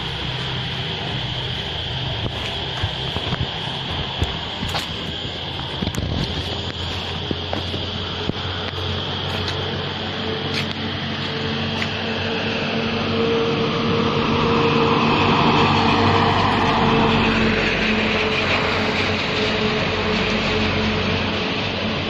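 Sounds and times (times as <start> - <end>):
road noise: 0.0 - 22.0
vehicle engine running: 0.0 - 22.0.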